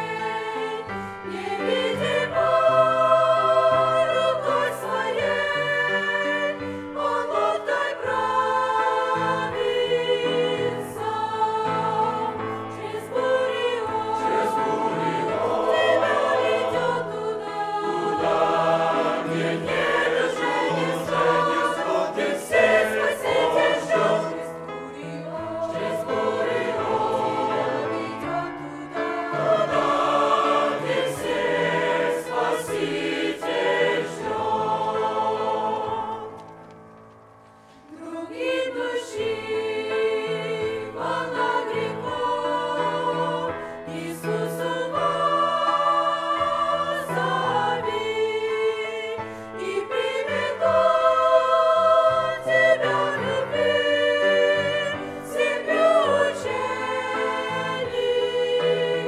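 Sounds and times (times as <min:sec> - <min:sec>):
mixed choir singing a hymn: 0:00.0 - 0:36.5, 0:37.9 - 0:59.0.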